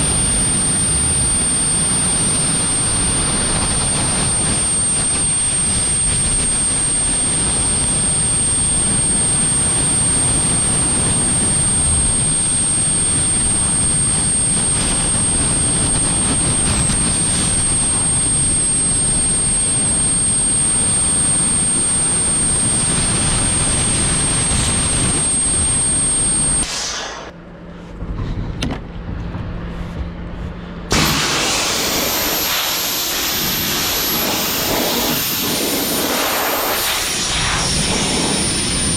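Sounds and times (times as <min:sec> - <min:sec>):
blower rushing air: 0:00.0 - 0:27.4, 0:29.8 - 0:38.9
low hum: 0:00.0 - 0:38.9.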